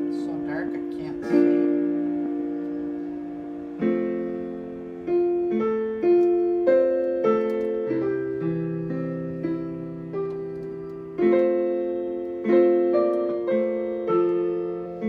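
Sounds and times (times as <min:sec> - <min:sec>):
keyboard piano chords: 0:00.0 - 0:15.0.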